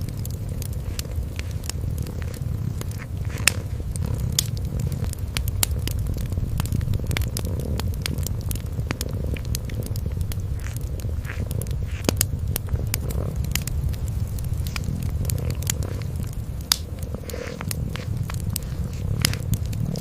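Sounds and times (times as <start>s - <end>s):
cat purring: 0.0s - 20.0s
wood fire crackling and popping: 0.0s - 20.0s.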